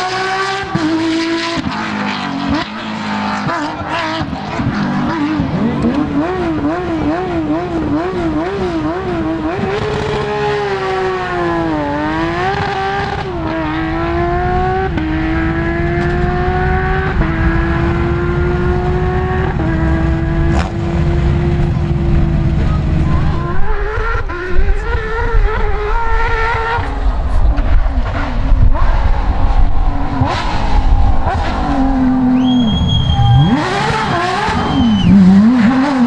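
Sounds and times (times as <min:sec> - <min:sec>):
rally car engine revving: 0:00.0 - 0:36.0
second rally car rumbling: 0:00.0 - 0:36.0.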